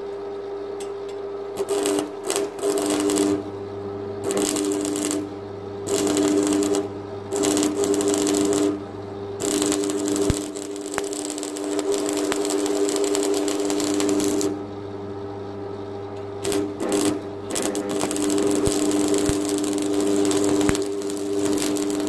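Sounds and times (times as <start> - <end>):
welding machine hum: 0.0 - 22.0
welding arc crackling: 1.5 - 14.7, 15.7 - 22.0.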